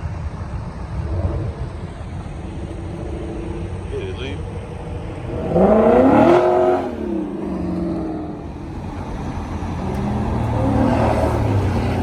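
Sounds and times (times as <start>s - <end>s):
car engine revving: 1.0s - 12.0s.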